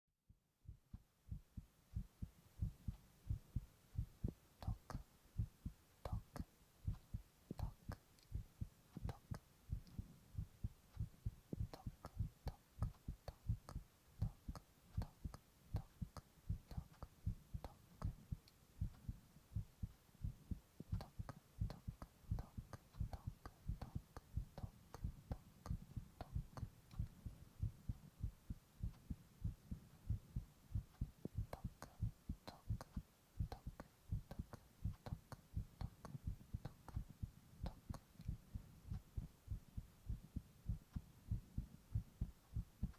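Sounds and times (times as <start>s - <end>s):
heartbeat thumps: 0.6s - 42.9s.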